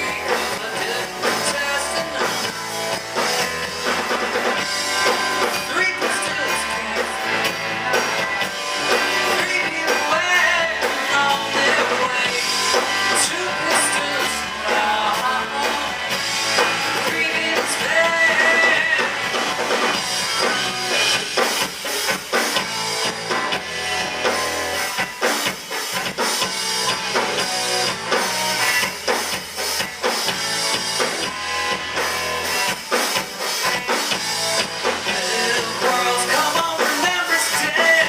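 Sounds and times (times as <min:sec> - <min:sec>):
drum kit steady beat: 0:00.0 - 0:38.0
guitar: 0:00.0 - 0:38.0
rock band playing instrumental: 0:00.0 - 0:38.0.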